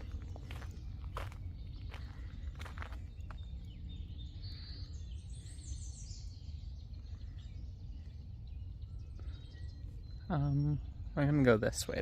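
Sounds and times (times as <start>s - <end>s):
small bird singing: 0.0s - 12.0s
steady low rumble: 0.0s - 12.0s.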